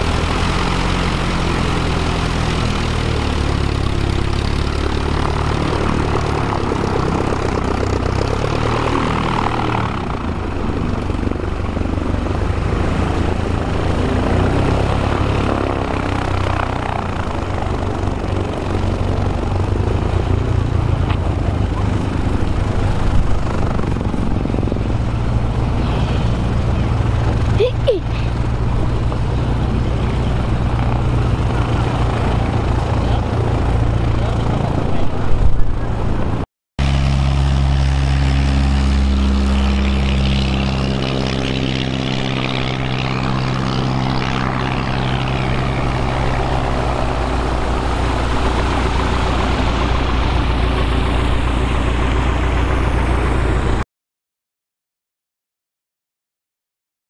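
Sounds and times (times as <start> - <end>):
aircraft propeller drone: 0.0 - 53.8.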